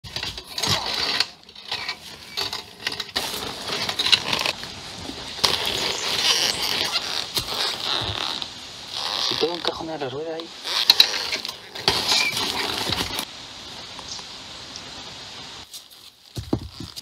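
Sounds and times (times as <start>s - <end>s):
rustling of brush: 0.0s - 17.0s.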